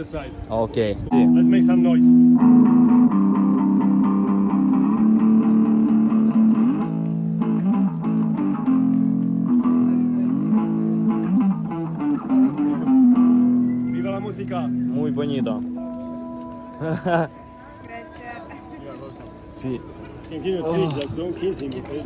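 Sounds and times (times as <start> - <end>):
amplified electric guitar melody: 1.1 - 22.0.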